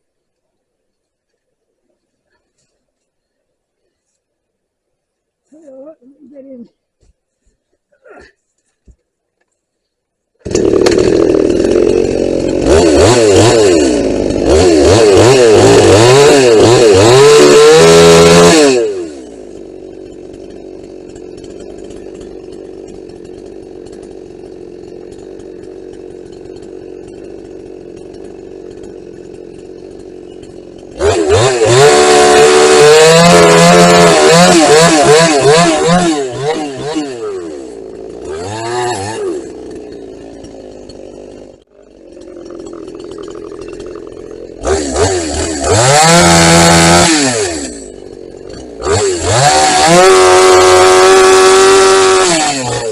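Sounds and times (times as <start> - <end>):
chainsaw cutting branches: 10.4 - 52.9.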